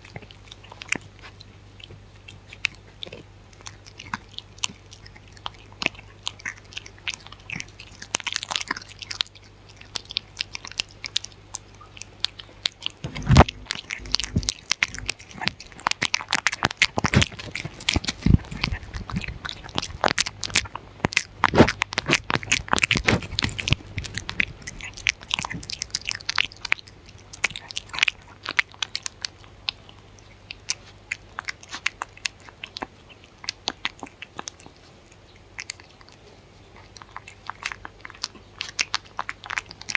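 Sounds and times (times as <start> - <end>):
dog crunching food: 0.0 - 39.9.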